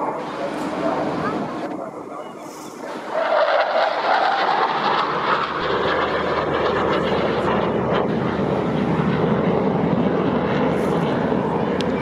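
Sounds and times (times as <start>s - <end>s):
jet fighter roaring past: 0.0s - 12.0s.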